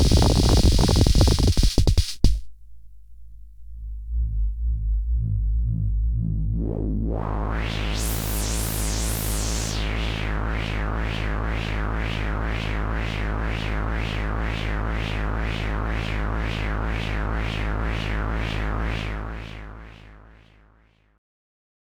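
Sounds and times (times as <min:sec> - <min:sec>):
synthesizer techno: 0:00.0 - 0:02.4, 0:04.1 - 0:20.6.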